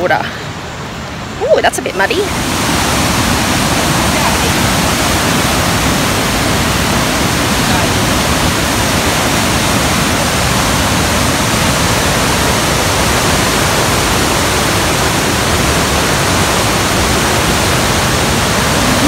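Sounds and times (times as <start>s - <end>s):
creek rushing through rapids: 0.0s - 19.0s.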